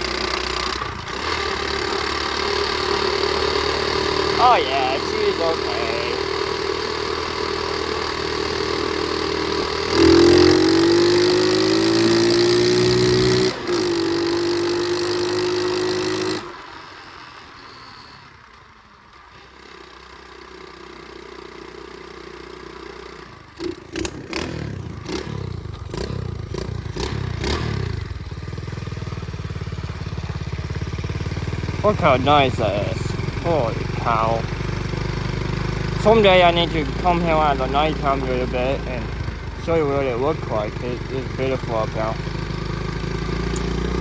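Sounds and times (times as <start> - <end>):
pit bike engine: 0.0 - 44.0.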